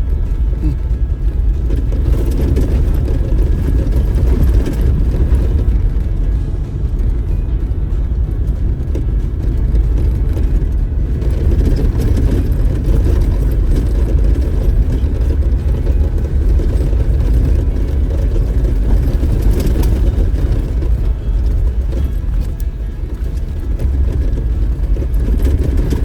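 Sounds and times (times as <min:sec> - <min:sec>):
off-road vehicle engine rumble: 0:00.0 - 0:26.0.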